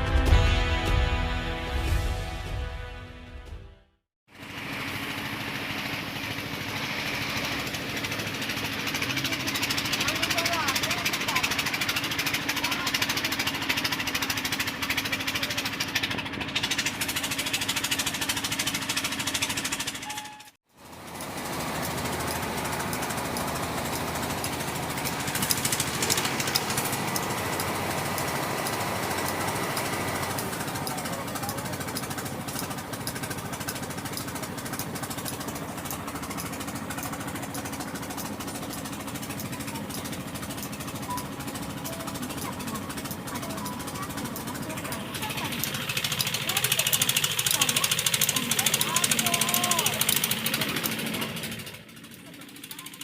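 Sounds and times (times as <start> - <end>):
engine idling with clatter: 4.3 - 53.0
air grease pump chattering: 4.4 - 53.0.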